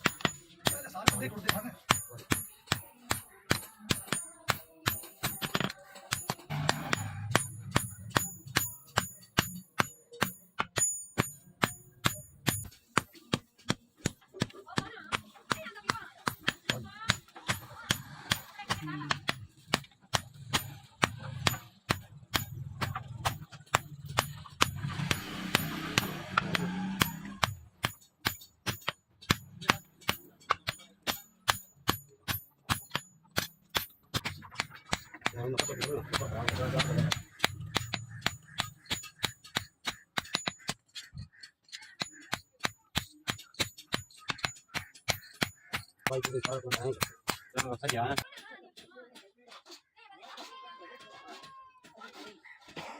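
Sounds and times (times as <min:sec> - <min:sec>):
hammer striking steel on anvil: 0:00.0 - 0:48.2.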